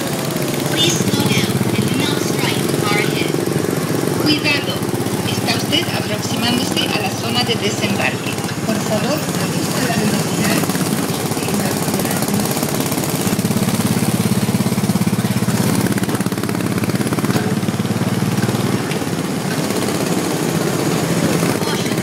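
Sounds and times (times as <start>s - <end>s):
small petrol engine chugging: 0.0s - 22.0s.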